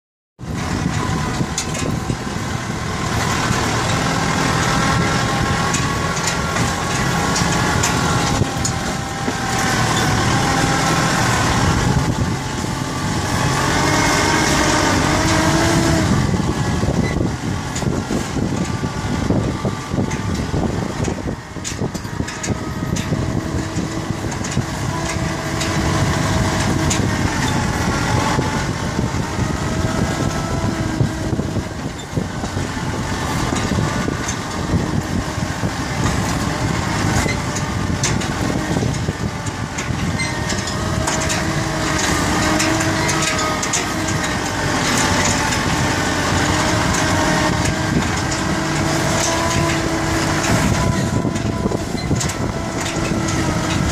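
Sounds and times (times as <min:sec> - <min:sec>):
tractor diesel engine running: 0:00.4 - 0:53.9.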